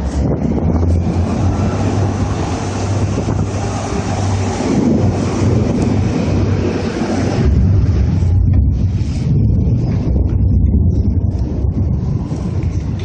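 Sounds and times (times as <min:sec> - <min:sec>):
diesel engine droning: 0:00.0 - 0:13.0
wind buffeting microphone: 0:00.0 - 0:13.0.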